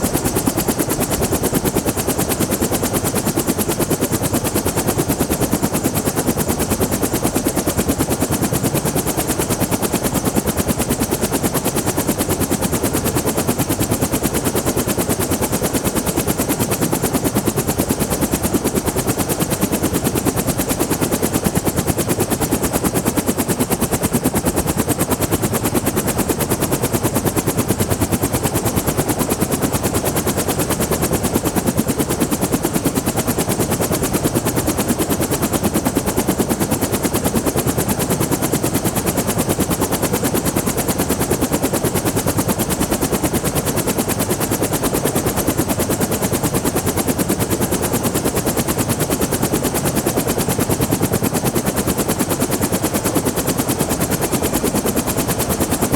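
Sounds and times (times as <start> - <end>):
helicopter rotor chopping: 0.0 - 55.9.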